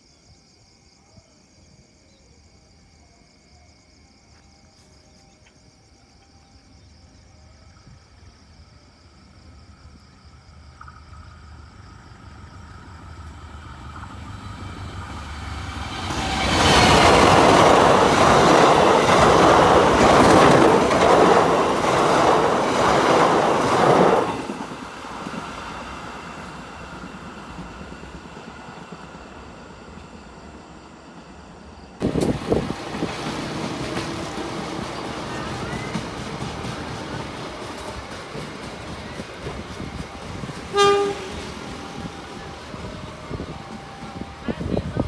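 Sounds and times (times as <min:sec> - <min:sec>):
train passing: 0:03.9 - 0:45.0.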